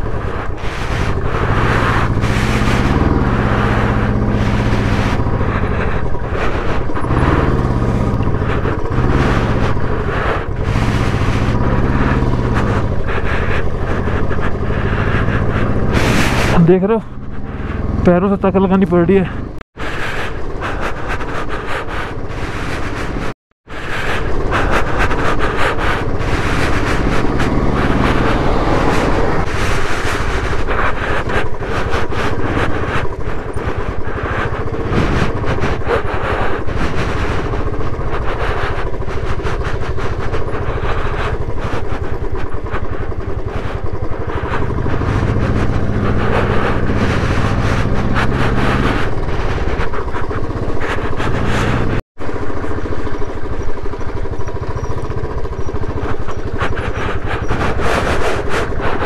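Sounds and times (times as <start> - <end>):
motorcycle engine running: 0.0 - 59.0
rough road noise: 0.0 - 59.0.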